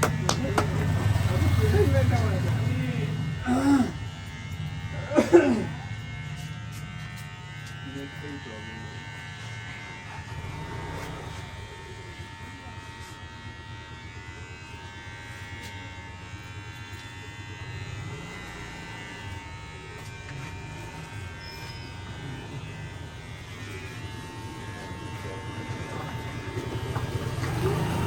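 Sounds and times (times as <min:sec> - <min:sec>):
small electric motor buzzing: 0:00.0 - 0:28.0.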